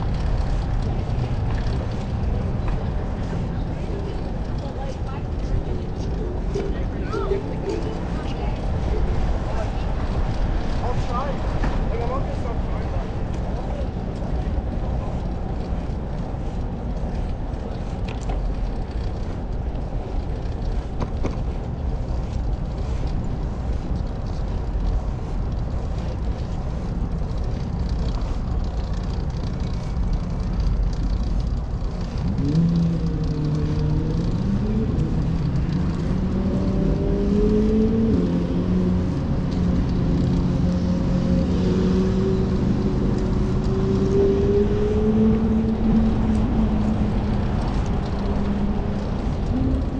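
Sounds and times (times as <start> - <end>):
motor vehicle engine: 0.0 - 49.9
street traffic: 0.0 - 49.9
wind on microphone: 0.0 - 49.9.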